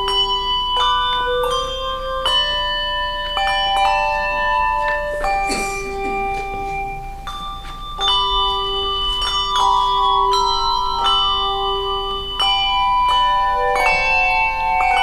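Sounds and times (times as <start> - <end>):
bells ringing a tune: 0.0 - 15.0.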